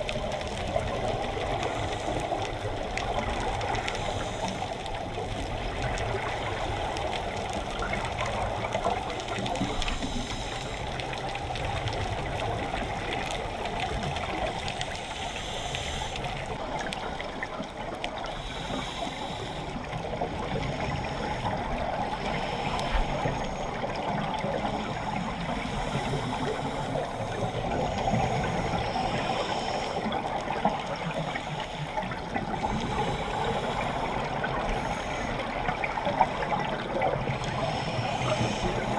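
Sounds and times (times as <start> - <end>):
muffled rush of water: 0.0 - 38.9.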